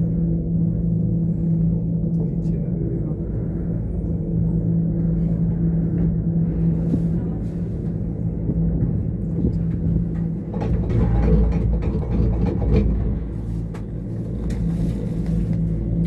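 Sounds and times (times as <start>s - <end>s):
gondola low rumble: 0.0s - 16.0s
gondola mechanical hum: 0.0s - 16.0s
gondola rattling: 0.0s - 16.0s.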